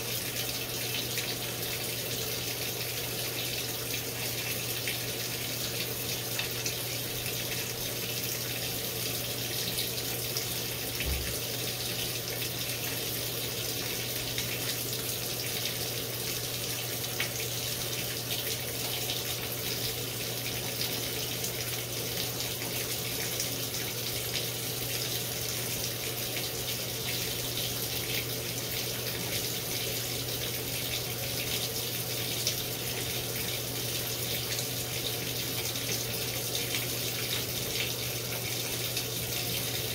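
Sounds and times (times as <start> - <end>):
washer low hum: 0.0 - 39.9
water running in washer tub: 0.0 - 39.9.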